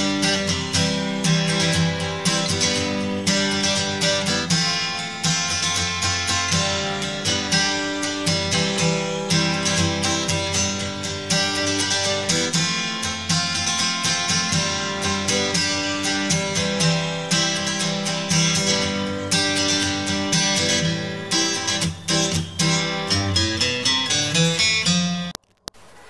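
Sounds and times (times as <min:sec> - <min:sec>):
acoustic guitar picked and strummed: 0:00.0 - 0:26.0.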